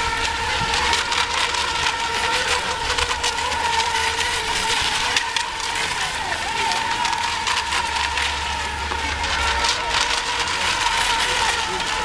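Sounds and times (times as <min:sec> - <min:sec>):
electric boats high-pitched whine: 0:00.0 - 0:12.0.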